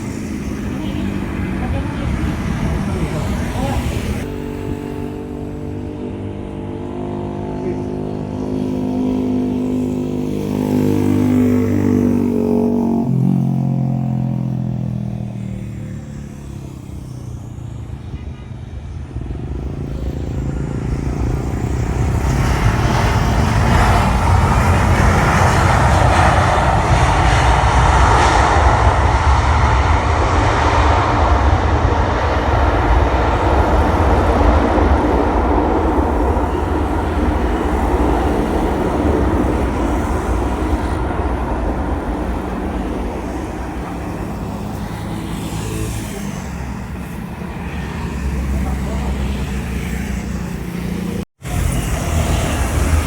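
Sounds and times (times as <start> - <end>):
jet engines whining: 0.0 - 53.0
jet roar: 0.0 - 53.0.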